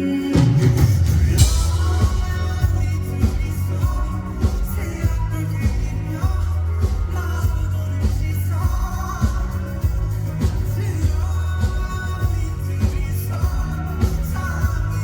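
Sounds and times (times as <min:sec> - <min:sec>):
heavy bass: 0:00.0 - 0:15.0
live pop-rock band: 0:00.0 - 0:15.0
person singing: 0:00.0 - 0:15.0
drum hits: 0:00.4 - 0:15.0.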